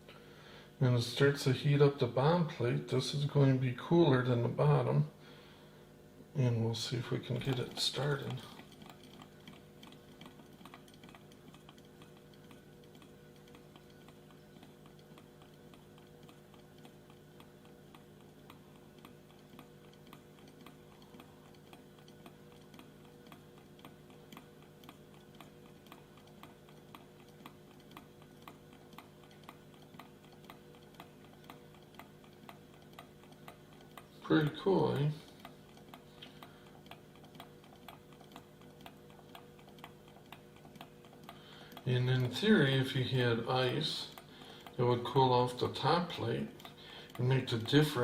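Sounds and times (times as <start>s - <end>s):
small engine faint regular ticking: 6.4s - 48.0s.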